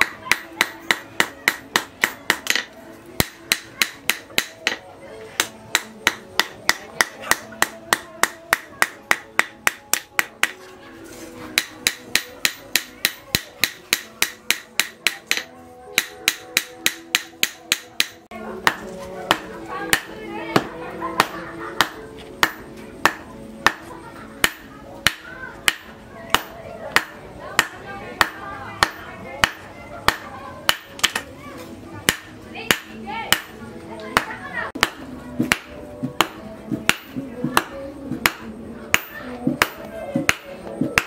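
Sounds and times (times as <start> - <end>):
hammer striking metal on anvil: 0.0 - 4.8, 5.4 - 10.6, 11.6 - 23.8, 24.4 - 31.2, 32.1 - 33.5, 34.2 - 41.0.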